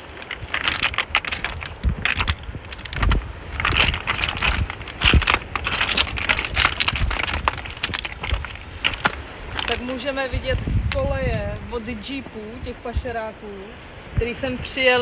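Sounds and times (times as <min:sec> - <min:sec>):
footsteps crunching on stony ground: 0:00.0 - 0:13.2
wind buffeting microphone: 0:00.0 - 0:15.0.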